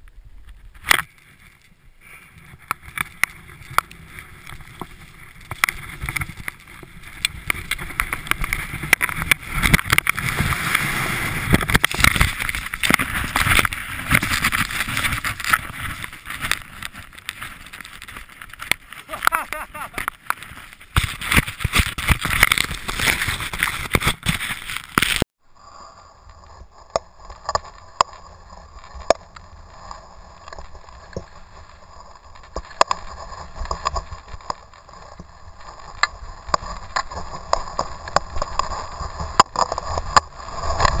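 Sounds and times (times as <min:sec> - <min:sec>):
wind blowing on camera: 0:00.0 - 0:41.0
skis scraping on snow: 0:01.1 - 0:41.0.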